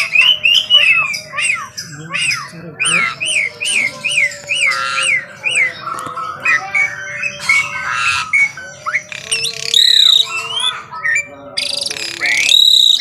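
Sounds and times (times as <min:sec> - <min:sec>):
bird whistling song: 0:00.0 - 0:13.0
harsh buzzy bird notes: 0:00.0 - 0:13.0.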